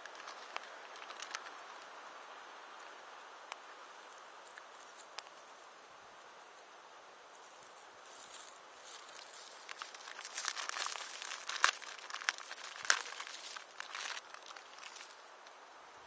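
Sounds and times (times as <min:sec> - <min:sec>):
campfire crackling: 0:00.0 - 0:05.6, 0:07.5 - 0:15.6.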